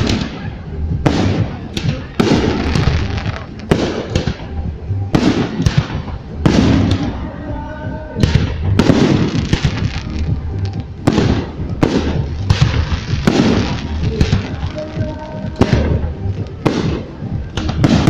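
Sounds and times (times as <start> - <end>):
firework crackling: 0.0 - 7.2, 8.2 - 18.0
low rumbling echo: 0.0 - 18.0.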